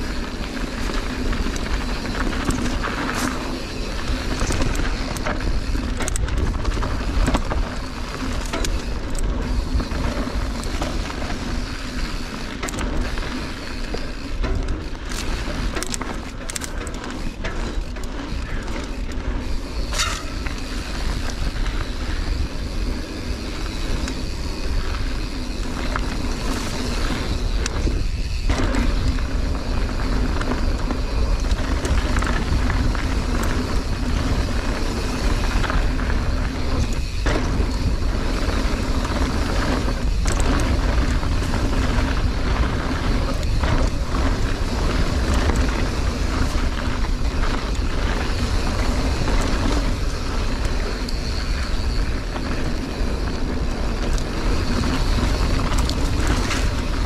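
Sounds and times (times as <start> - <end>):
bike clicking and rattling: 0.0 - 57.0
tyres crunching on dirt: 0.0 - 57.0
wind rushing over microphone: 0.0 - 57.0.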